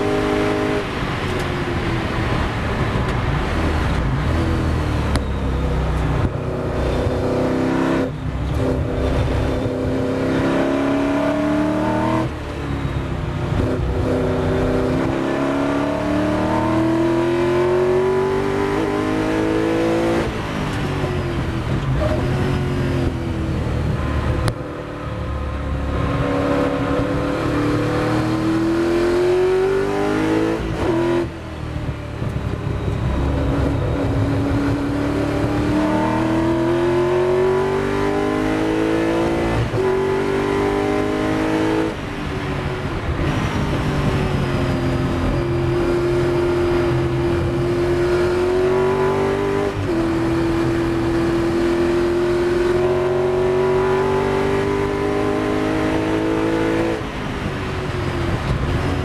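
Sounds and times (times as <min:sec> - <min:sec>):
racing engine accelerating: 0:06.0 - 0:12.5, 0:13.5 - 0:31.4, 0:32.2 - 0:42.0, 0:42.8 - 0:57.5.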